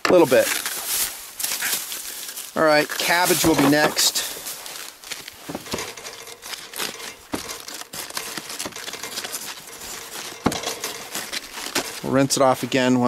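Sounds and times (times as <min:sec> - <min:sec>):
cabbage leaves crinkling and tearing: 0:00.0 - 0:13.0.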